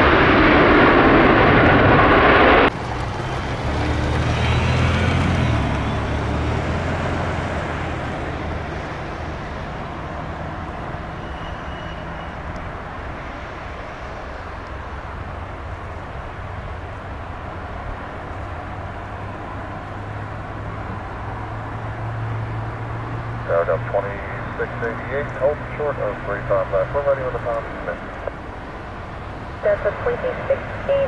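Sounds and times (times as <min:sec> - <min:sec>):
loud jet engine noise: 0:00.0 - 0:31.0
low jet rumble: 0:00.0 - 0:31.0.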